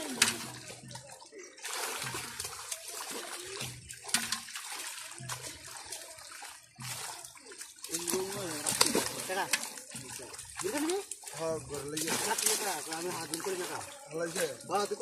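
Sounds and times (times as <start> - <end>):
water splashing and sloshing: 0.0 - 15.0
fish thrashing at surface: 1.6 - 14.1.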